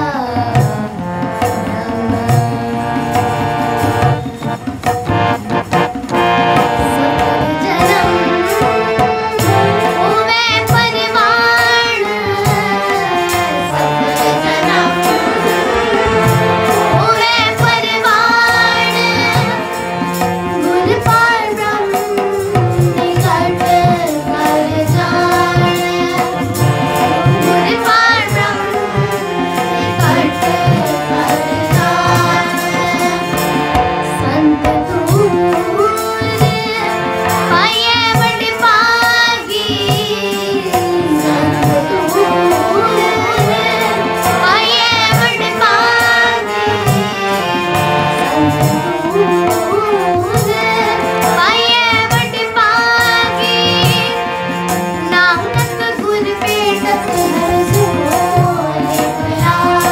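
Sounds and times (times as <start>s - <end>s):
harmonium chords: 0.0s - 59.9s
tabla rhythm: 0.0s - 59.9s
girls singing in unison: 6.4s - 59.9s.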